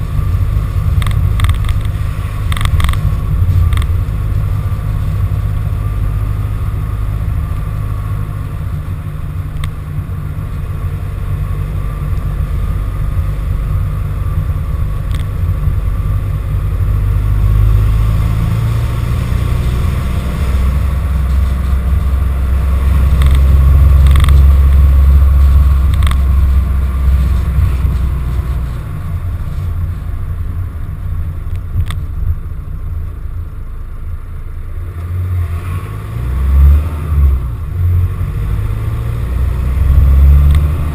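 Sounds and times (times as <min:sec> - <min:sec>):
van engine rumble: 0:00.0 - 0:40.9.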